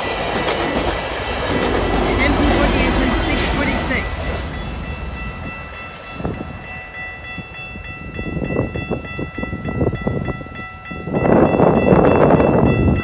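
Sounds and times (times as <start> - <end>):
train rumbling with wheel clicks: 0.0 - 13.0
level crossing warning bell ringing: 1.3 - 13.0.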